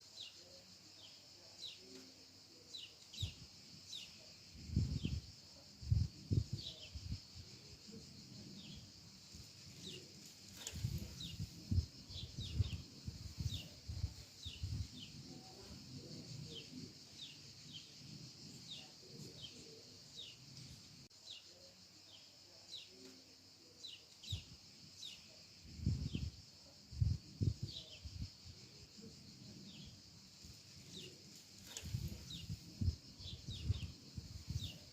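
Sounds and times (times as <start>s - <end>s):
steady high hiss: 0.0s - 34.9s.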